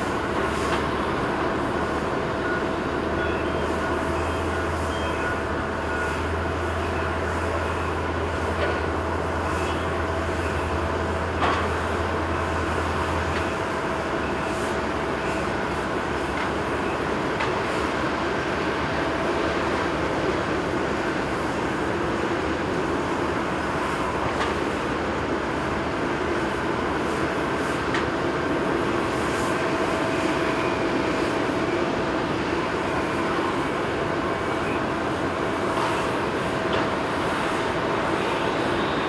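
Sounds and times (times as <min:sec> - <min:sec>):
distant jet engines idling: 0:00.0 - 0:39.0.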